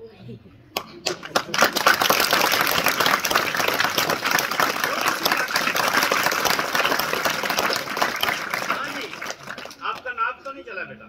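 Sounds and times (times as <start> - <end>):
children applauding: 0.8 - 10.0.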